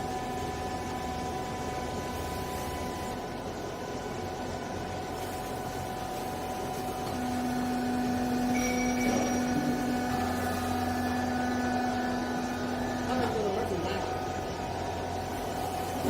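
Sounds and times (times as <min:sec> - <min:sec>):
baler machine hum: 0:00.0 - 0:16.0
strong steady whine: 0:00.0 - 0:16.0.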